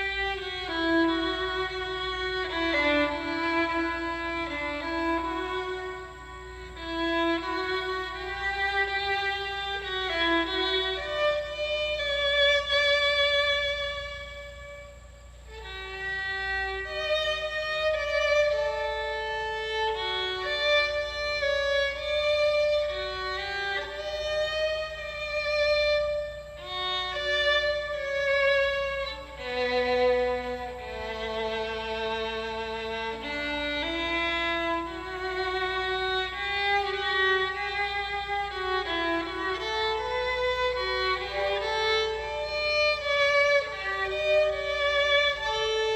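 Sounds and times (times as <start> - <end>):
solo violin slow melody: 0.0 - 45.9.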